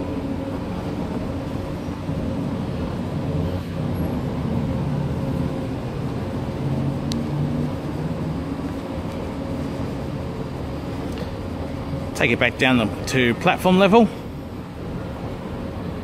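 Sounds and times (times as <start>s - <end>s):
escalator rumble and hum: 0.0s - 16.0s.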